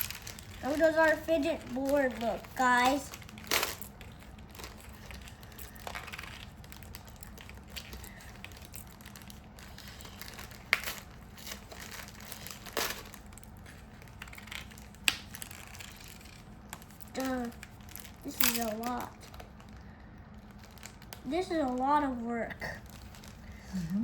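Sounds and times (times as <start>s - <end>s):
plastic packaging crinkling: 0.0s - 23.9s.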